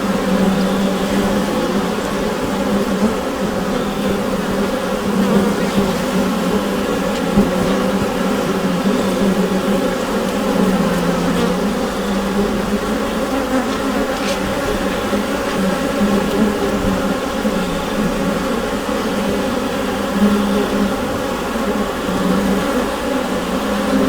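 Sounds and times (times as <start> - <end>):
bees buzzing in a hive: 0.0 - 24.0.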